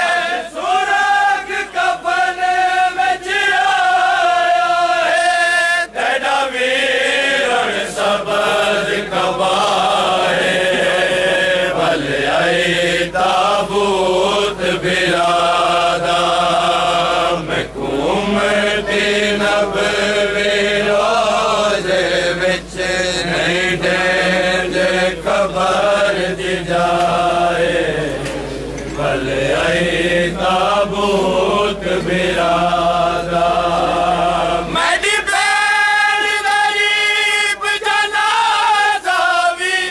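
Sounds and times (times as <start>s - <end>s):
crowd of men chanting: 0.0s - 39.9s.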